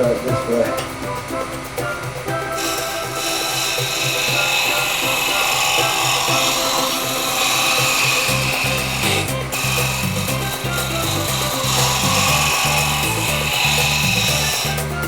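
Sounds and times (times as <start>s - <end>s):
background music with beat: 0.0s - 15.0s
lathe tool scraping spinning wood: 0.0s - 15.0s.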